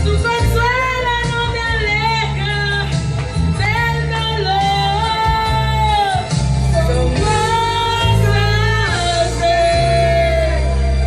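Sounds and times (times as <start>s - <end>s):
recorded backing music: 0.0s - 11.0s
steady bass line: 0.0s - 11.0s
women singing into microphones: 0.0s - 11.0s.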